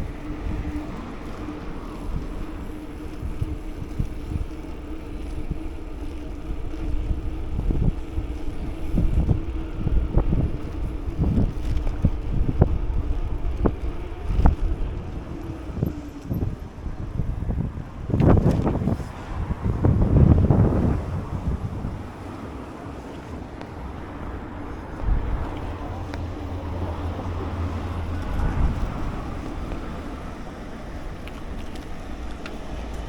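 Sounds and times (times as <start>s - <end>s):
engine hum: 0.0s - 33.0s
wind buffeting microphone: 0.0s - 33.0s.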